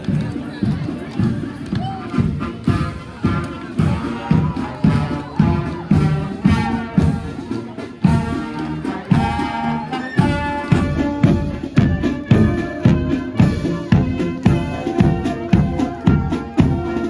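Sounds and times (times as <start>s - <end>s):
marching band brass: 0.0s - 17.0s
steady drum beat: 0.0s - 17.0s.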